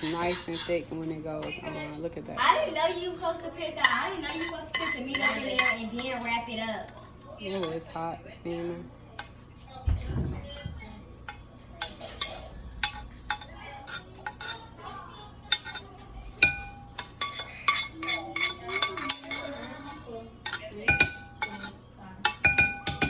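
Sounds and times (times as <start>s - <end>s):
utensils clinking against dishes: 0.0s - 2.1s, 3.8s - 8.0s, 10.5s - 23.0s.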